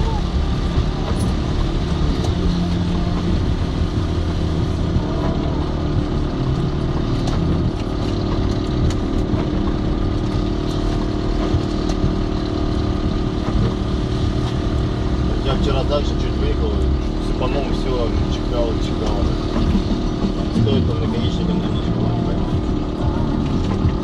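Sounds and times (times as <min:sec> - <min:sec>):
car engine hum: 0:00.0 - 0:24.0
raindrops ticking on windshield: 0:00.0 - 0:24.0
tyres on wet road: 0:00.0 - 0:24.0.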